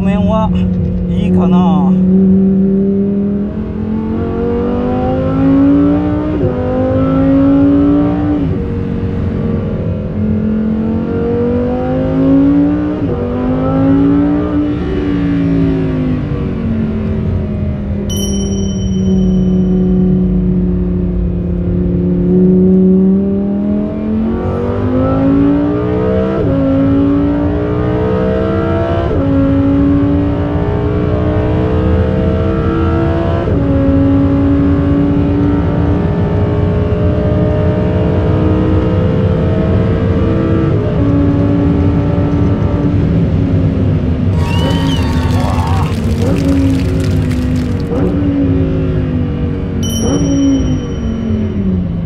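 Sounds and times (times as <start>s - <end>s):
sports car engine accelerating: 0.4s - 18.1s, 19.8s - 50.2s.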